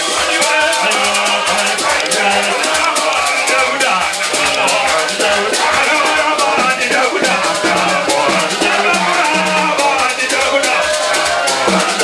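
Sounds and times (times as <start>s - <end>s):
drums: 0.0s - 12.0s
shaker rhythm: 0.0s - 12.0s
voices singing: 0.0s - 12.0s.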